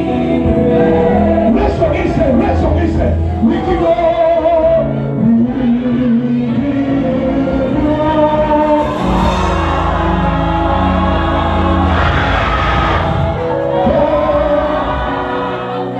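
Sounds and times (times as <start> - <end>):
congregation singing along: 0.0 - 15.9
keyboard and band playing: 0.0 - 15.9.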